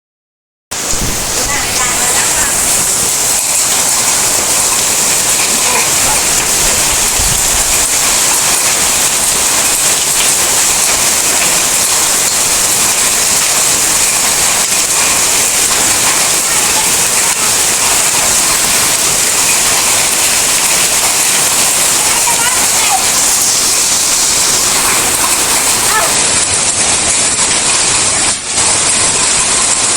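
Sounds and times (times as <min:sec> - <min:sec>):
hail and rain hissing: 0:00.7 - 0:29.9
hailstones ticking: 0:00.8 - 0:29.9.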